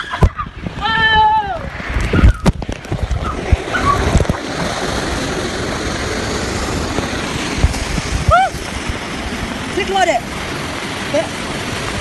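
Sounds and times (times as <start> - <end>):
water rushing through slide tube: 0.0 - 12.0.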